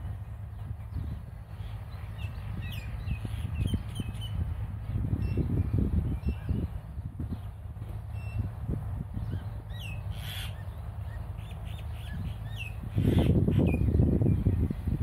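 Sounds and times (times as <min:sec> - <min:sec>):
small birds chirping: 0:00.0 - 0:15.0
wind rumble on microphone: 0:00.0 - 0:15.0.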